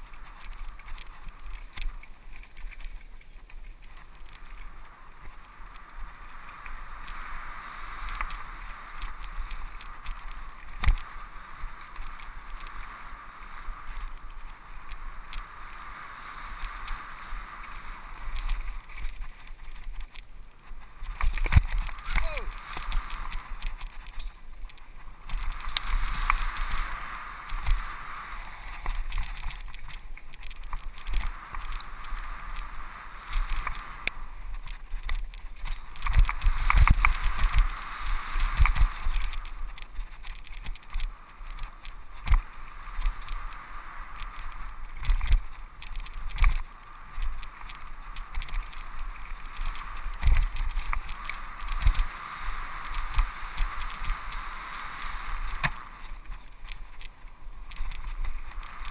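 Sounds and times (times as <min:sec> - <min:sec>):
bike rattling over bumps: 0:00.0 - 0:58.9
bike tyres rolling rush: 0:00.0 - 0:58.9.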